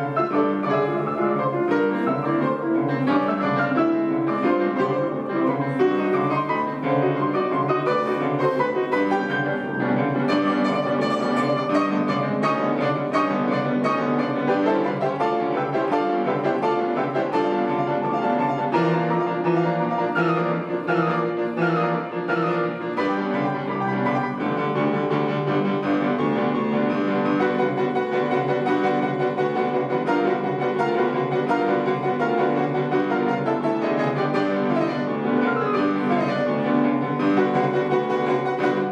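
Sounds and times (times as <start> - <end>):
piano duo playing classical music: 0.0 - 38.9.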